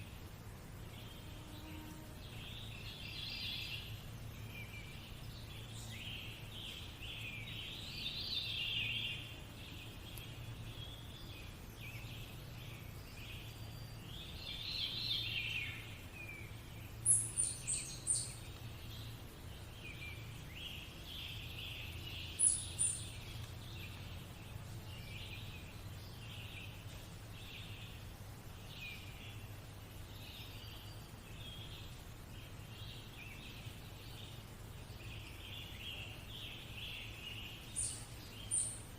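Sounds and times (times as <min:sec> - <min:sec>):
low steady hum: 0:00.0 - 0:38.9
small birds chirping: 0:00.0 - 0:38.9.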